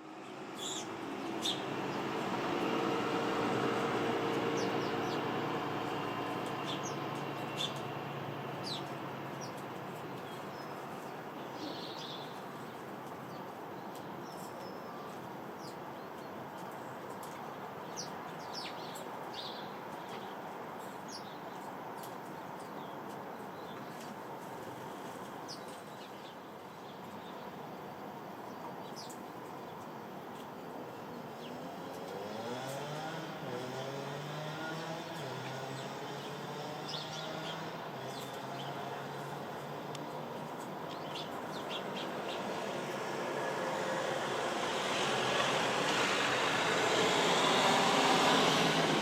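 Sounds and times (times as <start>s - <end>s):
background noise rush: 0.0s - 49.0s
sparrows chirping: 0.1s - 49.0s.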